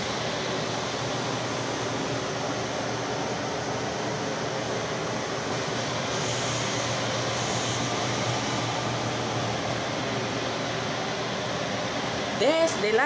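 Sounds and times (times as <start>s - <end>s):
fan-like rushing noise: 0.0s - 13.0s.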